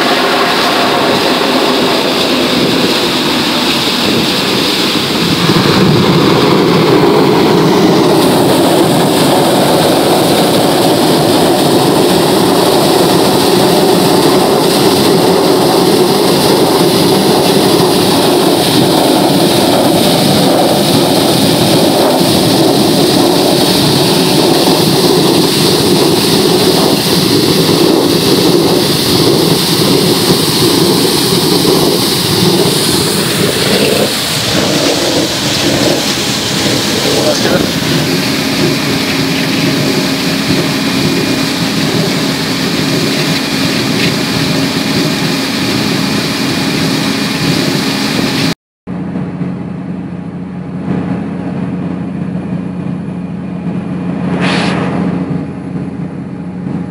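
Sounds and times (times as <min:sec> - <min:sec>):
water and air rushing from pipe: 0:00.0 - 0:56.9.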